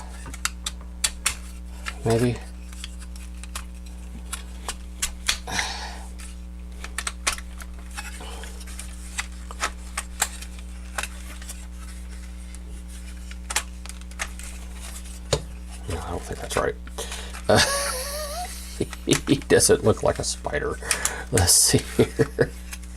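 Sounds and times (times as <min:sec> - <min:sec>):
low electrical hum: 0:00.0 - 0:22.9.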